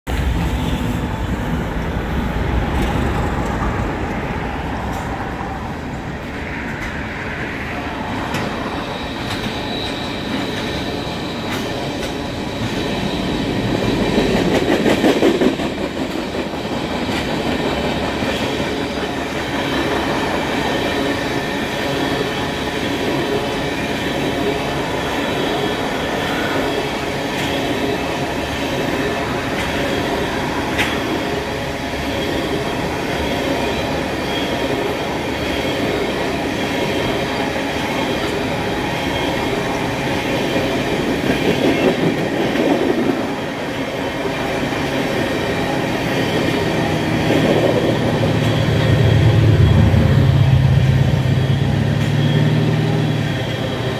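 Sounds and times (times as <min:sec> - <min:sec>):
train wheels rumbling on rail: 0:00.1 - 0:53.9.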